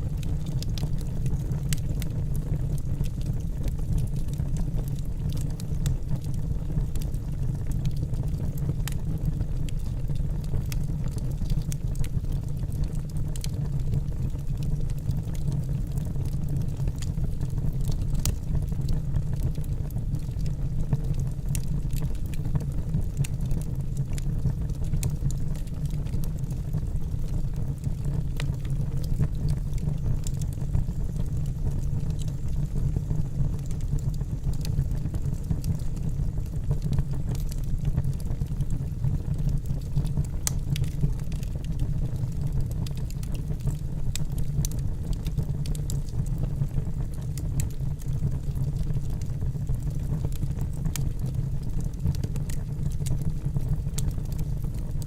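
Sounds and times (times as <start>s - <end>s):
burning logs crackling and popping: 0.0s - 55.0s
fire flames rumbling: 0.0s - 55.0s.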